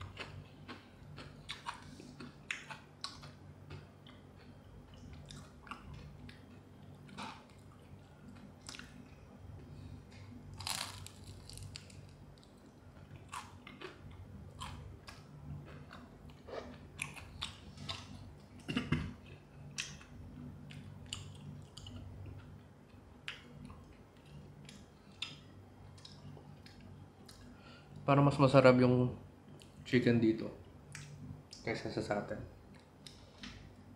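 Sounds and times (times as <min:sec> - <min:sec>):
crunchy chewing: 0:00.0 - 0:27.5
steady low hum: 0:00.0 - 0:33.9.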